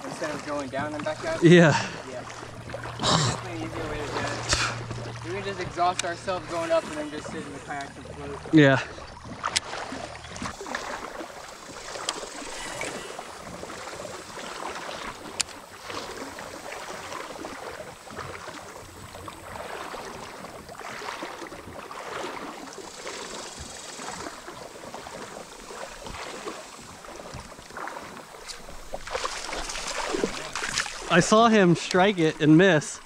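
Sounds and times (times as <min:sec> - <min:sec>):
water splashing around a kayak: 0:00.0 - 0:33.0.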